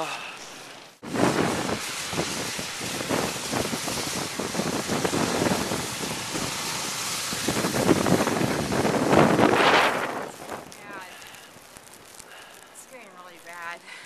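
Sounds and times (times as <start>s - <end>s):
blizzard wind buffeting microphone: 0.0s - 14.0s.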